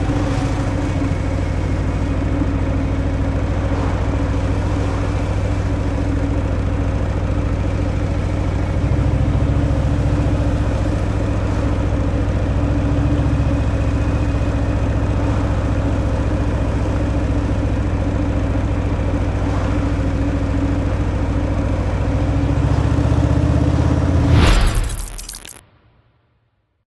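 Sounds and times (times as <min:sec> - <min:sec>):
motorcycle engine running: 0:00.0 - 0:25.4.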